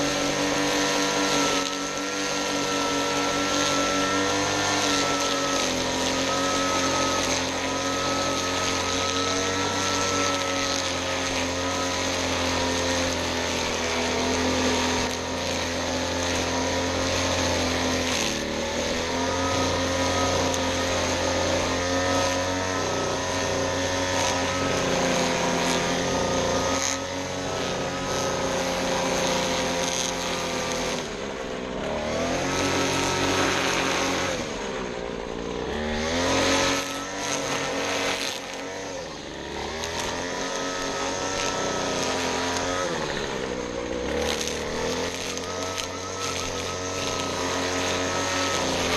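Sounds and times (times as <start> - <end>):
small gasoline engine running: 0.0 - 48.9.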